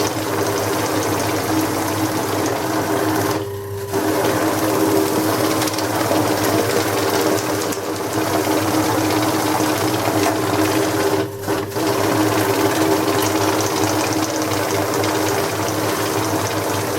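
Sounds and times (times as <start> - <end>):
counting machine motor hum: 0.0 - 16.9.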